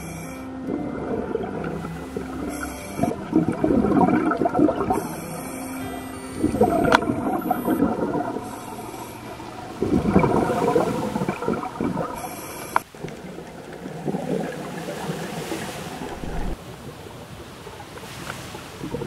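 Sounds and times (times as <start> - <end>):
underwater bubbles gurgling: 0.0 - 17.9, 18.8 - 19.0.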